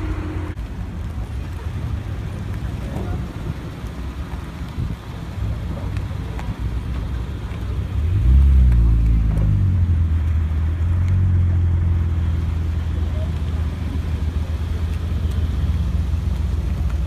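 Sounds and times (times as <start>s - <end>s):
car engine and exhaust pulling away: 0.0s - 17.0s.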